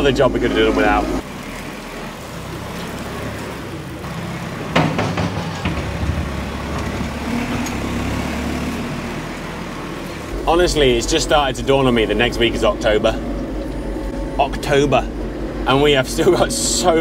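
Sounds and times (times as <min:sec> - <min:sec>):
bucket pushing wet muck: 0:00.0 - 0:17.0
diesel engine running: 0:00.0 - 0:17.0.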